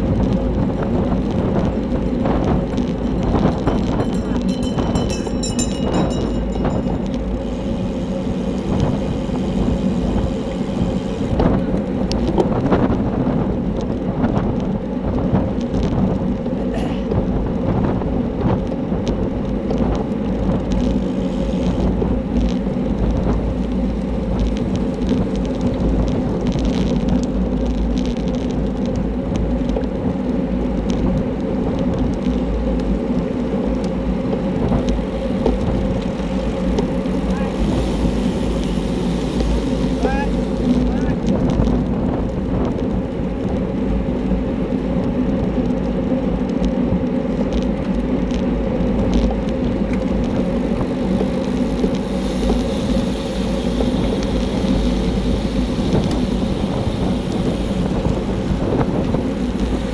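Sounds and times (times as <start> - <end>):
bicycle tyre and road noise: 0.0 - 59.9
wind rush on microphone: 0.0 - 59.9.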